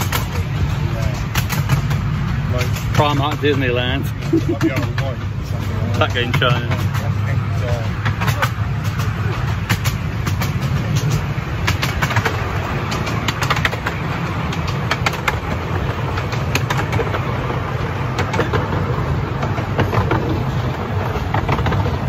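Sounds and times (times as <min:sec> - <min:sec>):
miniature train rumbling on track: 0:00.0 - 0:22.0
wheels clicking and clacking: 0:00.0 - 0:22.0.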